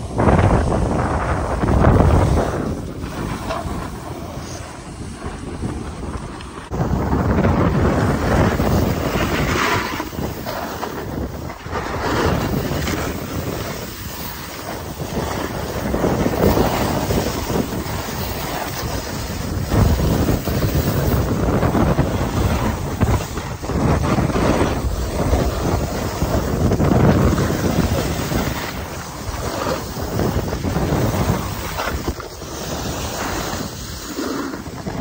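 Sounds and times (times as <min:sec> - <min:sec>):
skis carving on packed snow: 0:00.0 - 0:35.0
wind rushing over microphone: 0:00.0 - 0:35.0.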